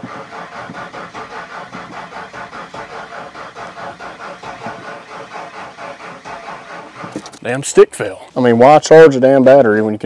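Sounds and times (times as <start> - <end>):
starter cranking engine: 0.0 - 8.3.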